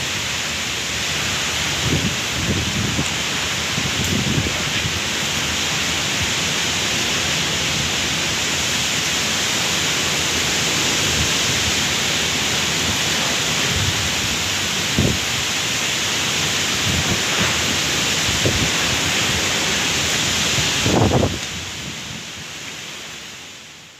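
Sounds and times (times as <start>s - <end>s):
heavy rain: 0.0s - 23.9s.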